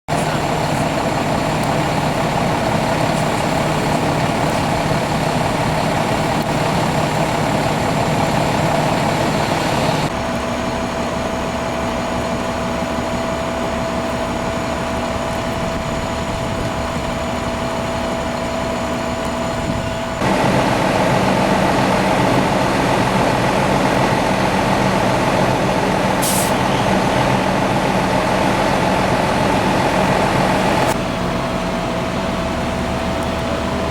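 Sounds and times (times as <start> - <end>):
fire truck engines droning: 0.1 - 33.9.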